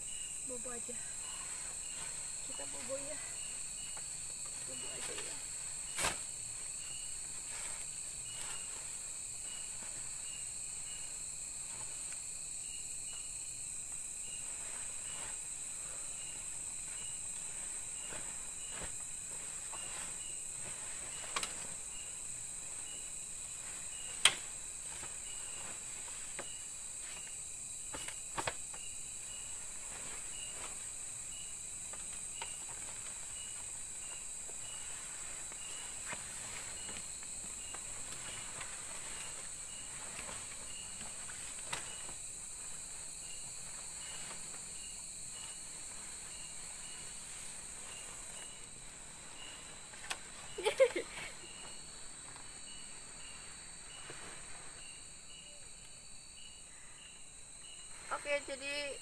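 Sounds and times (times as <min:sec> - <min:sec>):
insect chirping: 0:00.0 - 0:59.0
insects droning: 0:00.0 - 0:59.0.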